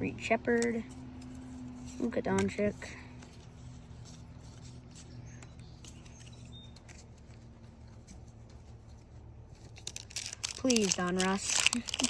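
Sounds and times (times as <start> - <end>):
steady low hum: 0.0 - 12.0
trading cards being handled: 0.4 - 12.0.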